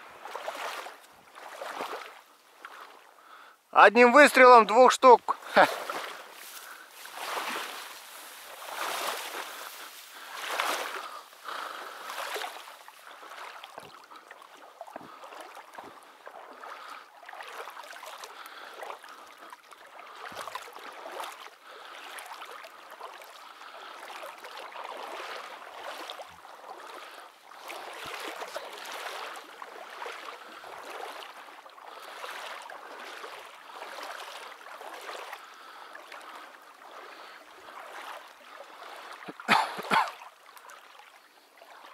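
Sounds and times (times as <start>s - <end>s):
water sloshing and splashing: 0.0s - 3.4s, 5.0s - 41.9s.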